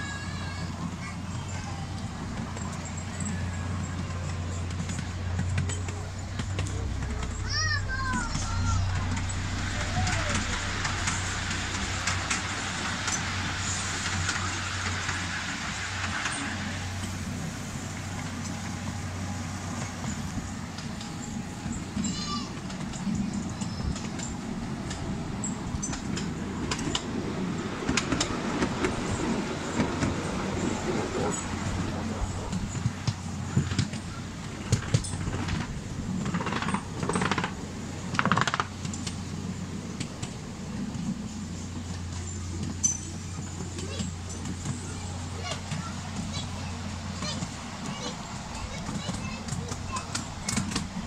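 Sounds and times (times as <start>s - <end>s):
miniature train rumbling: 0.0s - 51.0s
wheels clicking over rail joints: 0.0s - 51.0s.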